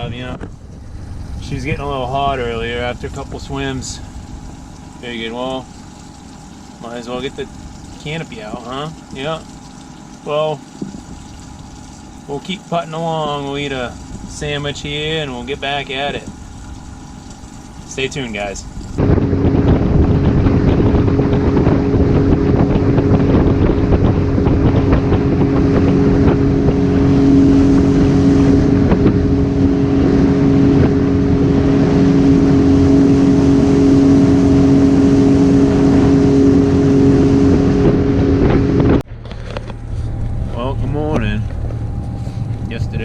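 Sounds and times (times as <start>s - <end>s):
wind buffeting microphone: 0.0s - 12.3s, 13.2s - 43.0s
outboard motor running: 0.0s - 43.0s.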